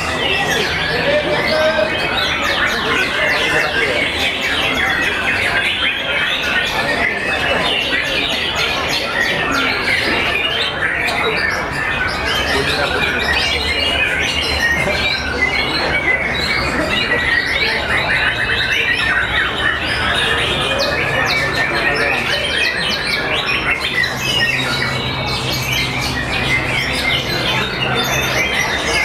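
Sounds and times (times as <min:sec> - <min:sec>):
birds singing in chorus: 0:00.0 - 0:29.0.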